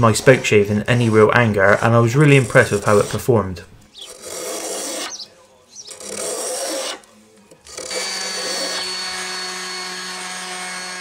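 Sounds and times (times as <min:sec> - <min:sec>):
spokeshave scraping wood: 0:00.0 - 0:09.0.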